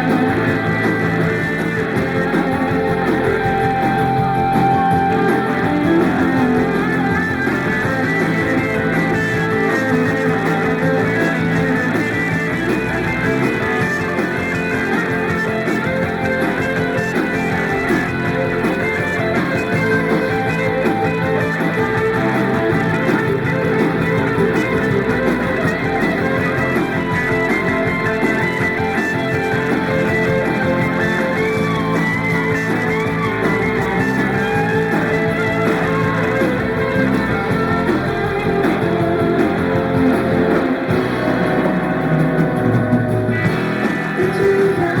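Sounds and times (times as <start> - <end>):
electric guitar: 0.0 - 45.0
live rock band playing: 0.0 - 45.0.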